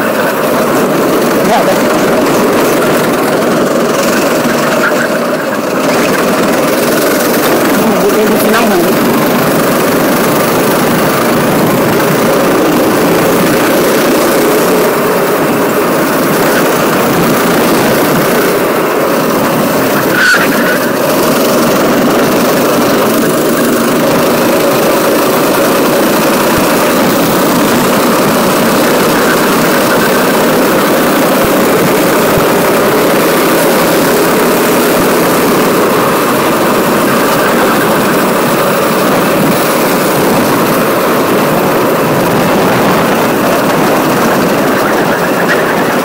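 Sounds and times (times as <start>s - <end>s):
go-kart engine running: 0.0s - 46.0s.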